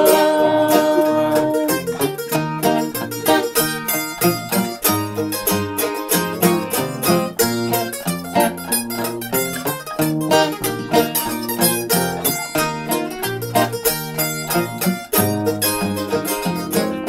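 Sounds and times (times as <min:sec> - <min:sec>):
bass notes: 0:00.0 - 0:17.0
fast picked string lead: 0:00.0 - 0:17.0
strummed guitar: 0:00.0 - 0:17.0.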